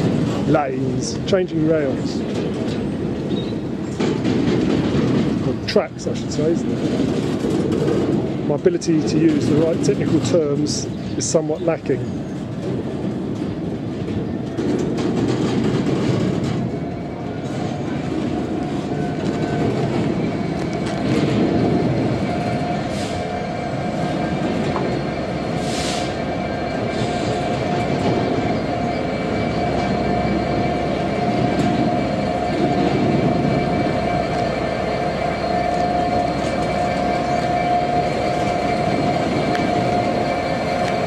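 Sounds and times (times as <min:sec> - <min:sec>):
diesel locomotive engine running: 0:00.0 - 0:41.0
wheels clicking over rail joints: 0:00.0 - 0:41.0.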